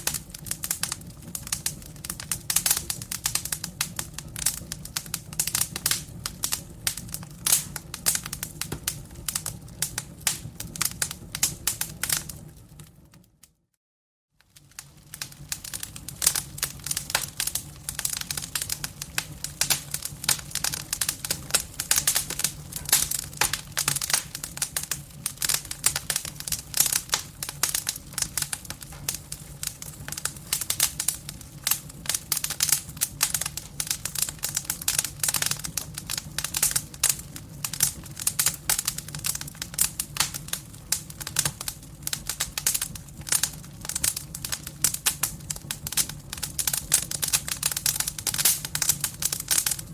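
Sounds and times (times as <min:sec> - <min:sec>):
firewood crackling and popping: 0:00.0 - 0:13.5, 0:14.4 - 0:49.9.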